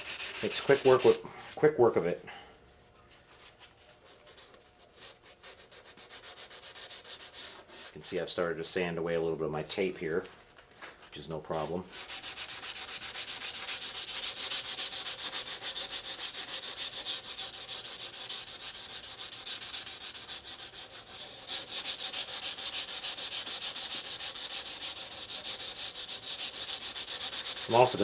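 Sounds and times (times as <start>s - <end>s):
sandpaper rubbing on plastic: 0.0s - 1.2s, 3.4s - 8.0s, 10.9s - 28.0s.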